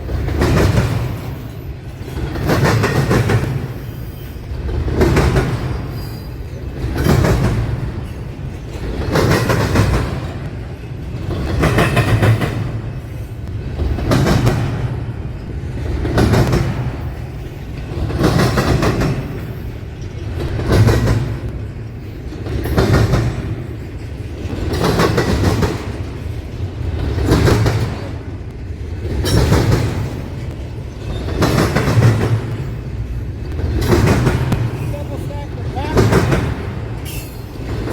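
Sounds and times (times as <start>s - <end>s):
train rumble: 0.0s - 37.9s
train wheels clattering over crossing: 0.0s - 37.9s.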